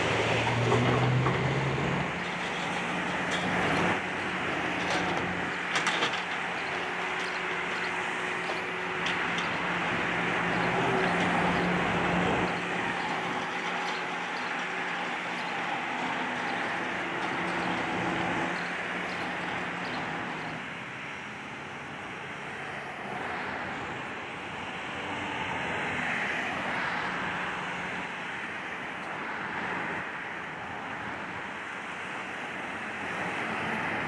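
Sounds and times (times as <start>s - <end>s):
engine noise with rushing: 0.0s - 34.0s.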